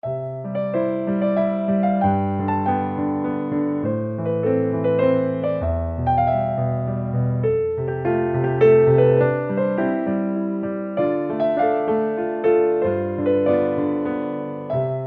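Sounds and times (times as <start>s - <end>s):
piano keyboard music: 0.0s - 15.0s.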